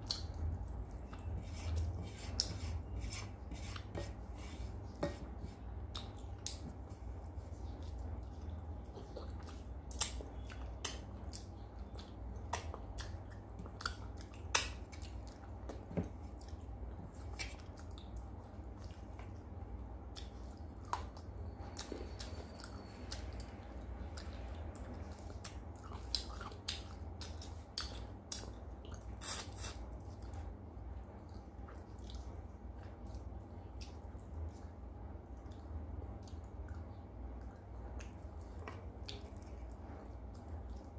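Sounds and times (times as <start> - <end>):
close chewing with lip smacks: 0.0 - 3.0, 5.6 - 40.9
low steady hum: 0.0 - 40.9.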